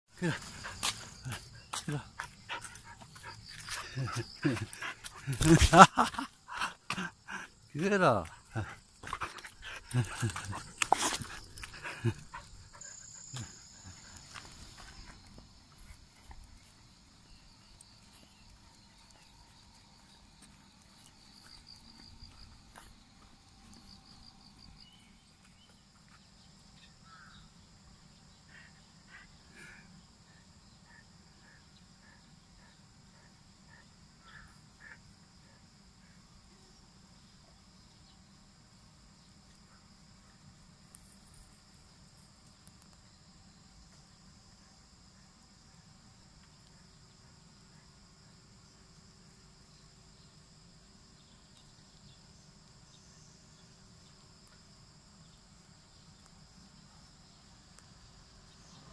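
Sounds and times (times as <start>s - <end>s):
insects chirring: 0.1s - 58.9s.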